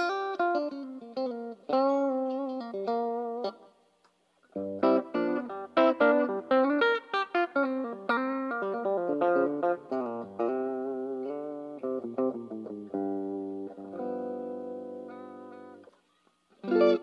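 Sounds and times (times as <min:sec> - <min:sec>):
electric guitar through an amp: 0:00.0 - 0:03.7, 0:04.5 - 0:16.0, 0:16.6 - 0:17.0.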